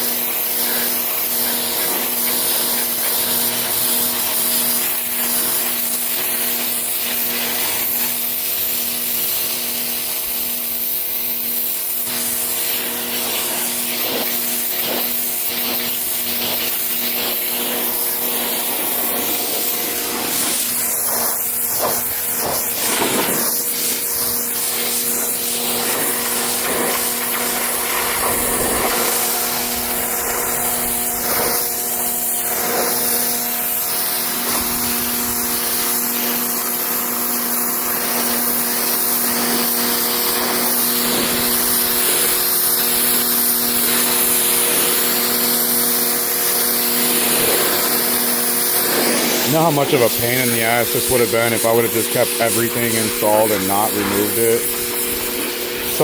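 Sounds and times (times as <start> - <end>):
pressure washer spray hissing: 0.0 - 56.0
pump humming: 0.0 - 56.0.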